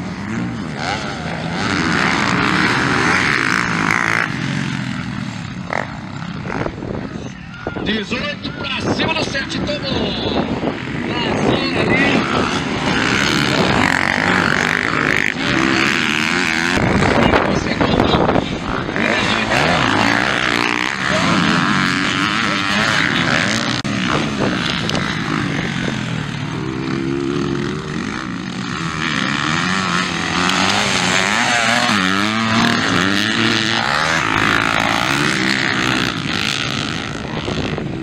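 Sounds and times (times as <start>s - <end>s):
motocross engines revving: 0.0s - 38.0s.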